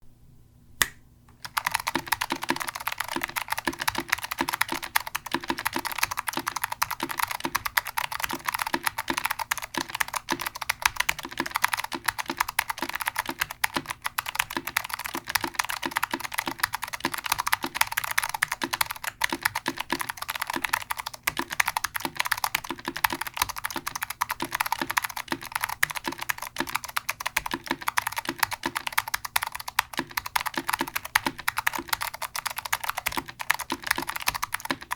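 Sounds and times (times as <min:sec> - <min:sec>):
fast typing on clicky keyboard: 0:01.4 - 0:34.9.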